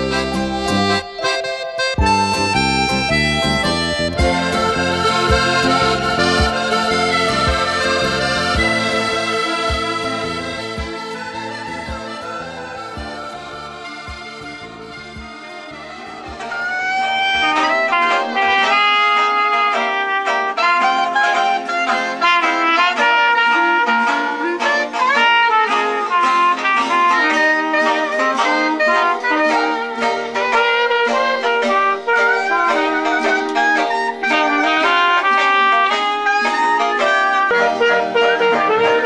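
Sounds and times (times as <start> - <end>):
acoustic guitar: 0.0 - 39.0
clarinet: 0.0 - 39.0
trumpet: 0.0 - 39.0.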